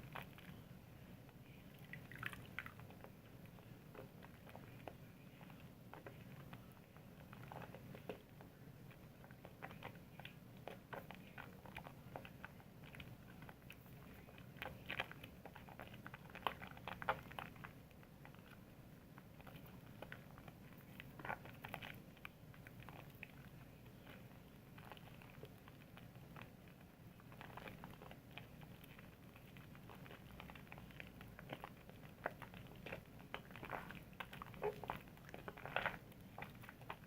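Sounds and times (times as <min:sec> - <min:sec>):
soap lather wet crackling: 0:00.0 - 0:37.0.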